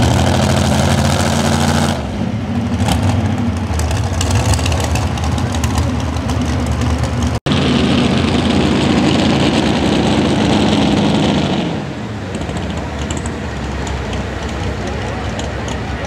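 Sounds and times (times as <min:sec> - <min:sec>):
engine running hard under load: 0:00.0 - 0:16.0.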